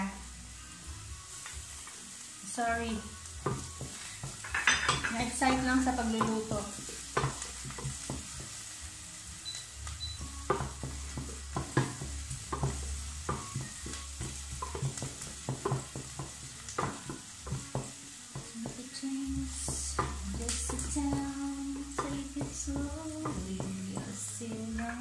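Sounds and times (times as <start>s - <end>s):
light sizzle: 0.0s - 25.0s.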